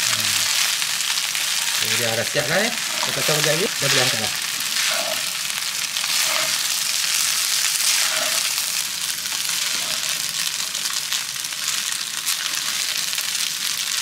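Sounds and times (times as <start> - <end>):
rice sizzling in a wok: 0.0 - 14.0
spatula stirring in a wok: 0.4 - 13.5.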